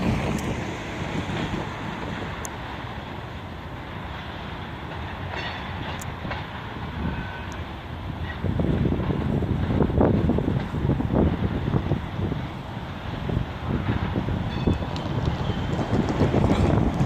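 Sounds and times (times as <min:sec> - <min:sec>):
railcar wheels on track: 0:00.0 - 0:17.0.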